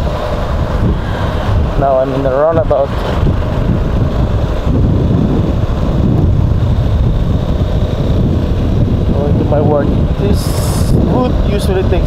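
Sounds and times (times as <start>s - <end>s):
motorcycle engine running: 0.0s - 12.0s
wind rumbling on microphone: 0.0s - 12.0s.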